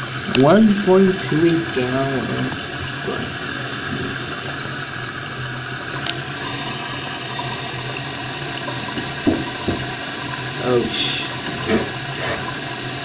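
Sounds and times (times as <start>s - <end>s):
toilet tank refilling: 0.0s - 13.0s.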